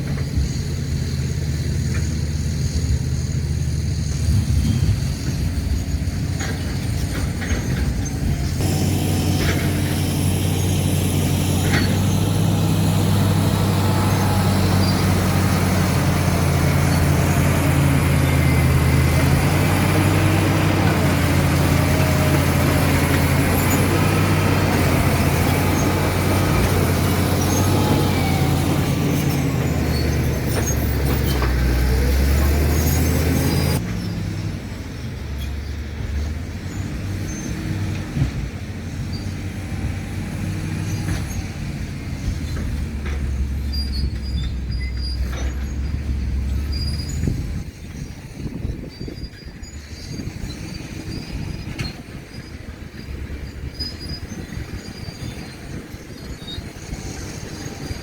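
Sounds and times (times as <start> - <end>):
bulldozer diesel engine under load: 0.0 - 58.0
steel tracks squealing and clanking: 0.0 - 58.0.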